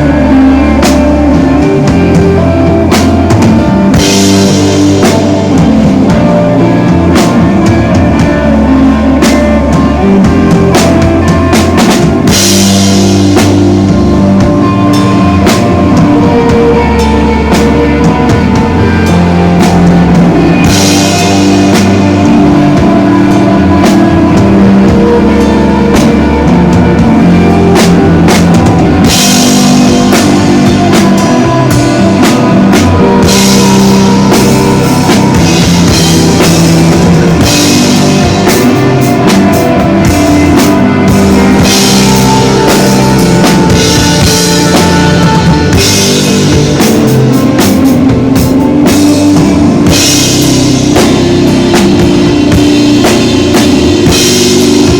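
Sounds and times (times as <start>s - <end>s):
bass guitar: 0.0s - 54.9s
drum kit: 0.0s - 54.9s
electric guitar: 0.0s - 54.9s
heavy cymbal wash: 0.0s - 54.9s.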